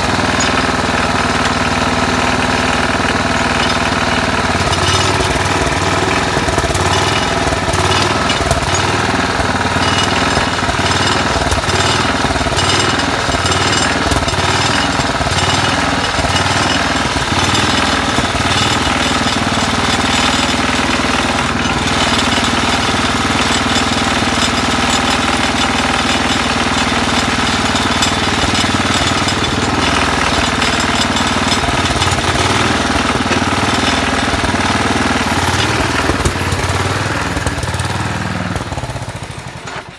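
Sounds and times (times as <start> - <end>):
small engine fast idle: 0.0 - 39.9.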